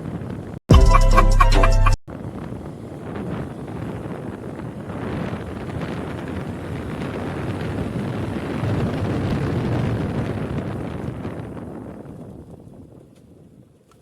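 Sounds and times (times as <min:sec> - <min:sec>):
wind buffeting microphone: 0:00.0 - 0:00.6, 0:02.1 - 0:14.0.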